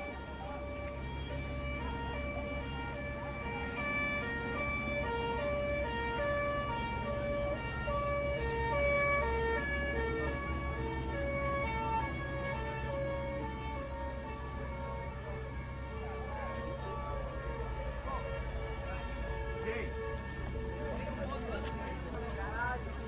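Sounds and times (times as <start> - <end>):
two-tone emergency siren: 0.0 - 23.0.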